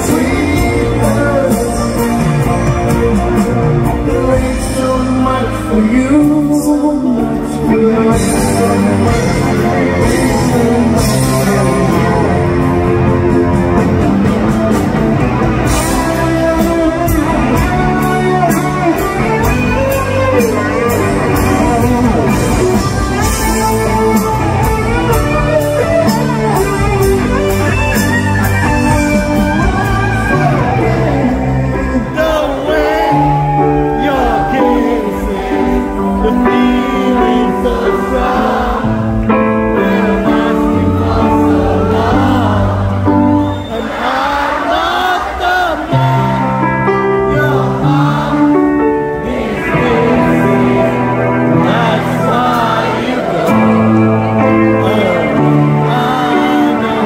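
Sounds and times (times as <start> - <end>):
man singing: 0.0 - 14.0, 15.7 - 48.9, 49.5 - 57.0
soft rock band playing: 0.0 - 57.0.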